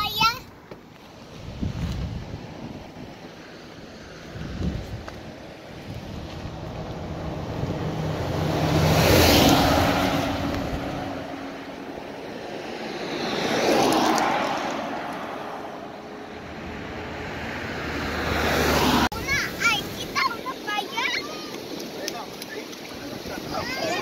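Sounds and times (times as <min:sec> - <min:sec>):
vehicles passing by: 0:00.0 - 0:24.0.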